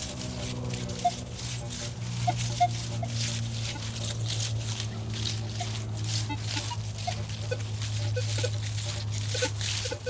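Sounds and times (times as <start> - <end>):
metal detector hum: 0.0 - 10.0
rhythmic swishing: 0.0 - 10.0.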